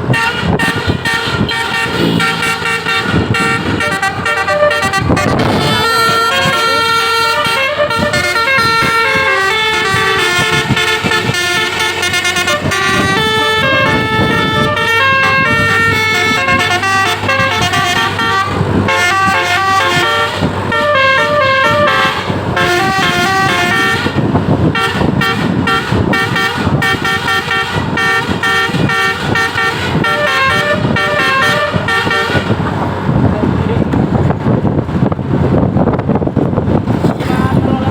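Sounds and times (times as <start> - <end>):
low engine and road rumble: 0.0 - 37.9
musical air horn tune: 0.1 - 32.6.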